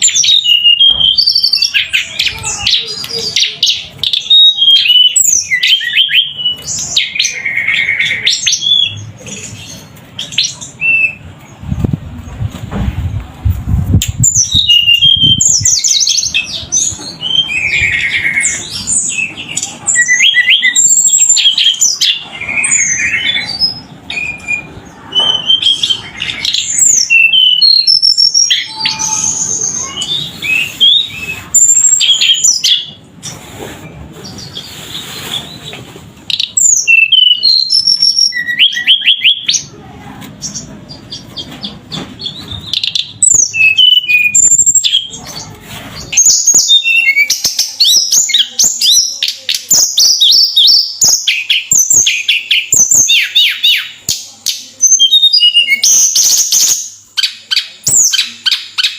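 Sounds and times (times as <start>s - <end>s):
songbird chirping and whistling: 0.0s - 12.6s, 13.7s - 33.4s, 34.2s - 39.7s, 40.4s - 58.9s.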